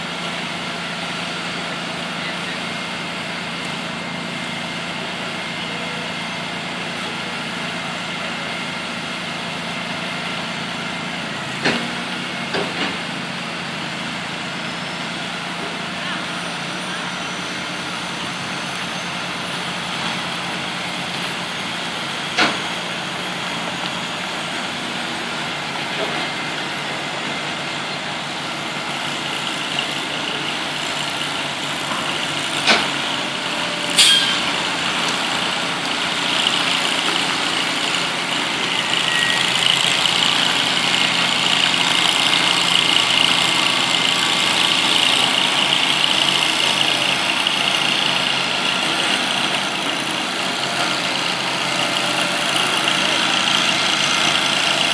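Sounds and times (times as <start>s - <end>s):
heavy truck engine running: 0.0s - 54.9s.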